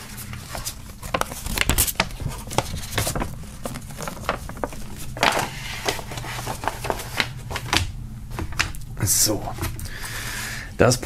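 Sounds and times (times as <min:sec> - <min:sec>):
paper crackling: 0:00.0 - 0:10.2
paper rustling: 0:00.0 - 0:10.3.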